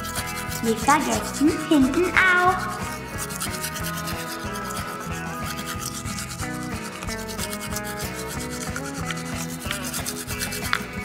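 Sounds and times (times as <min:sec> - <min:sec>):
background music: 0:00.0 - 0:11.0
toothbrush scrubbing: 0:00.0 - 0:11.0.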